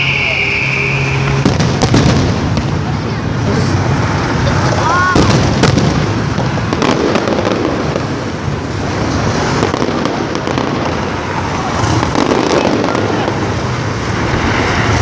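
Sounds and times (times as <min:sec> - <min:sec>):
continuous noisy din: 0:00.0 - 0:15.0
fireworks crackling and popping: 0:00.0 - 0:15.0.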